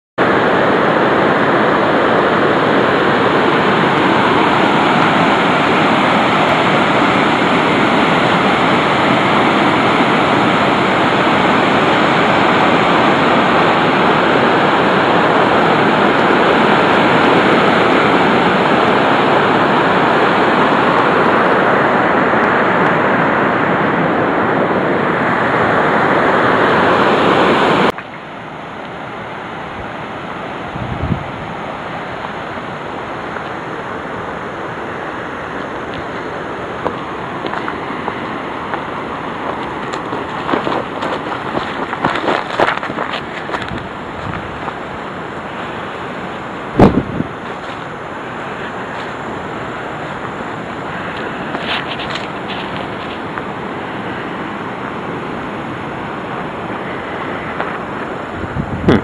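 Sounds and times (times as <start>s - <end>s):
turbulent river water rushing: 0.2s - 59.0s.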